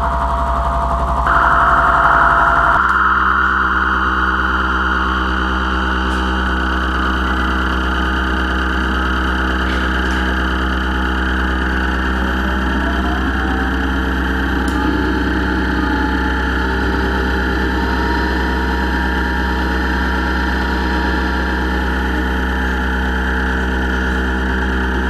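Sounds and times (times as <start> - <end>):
electronic drone music: 0.0 - 25.0.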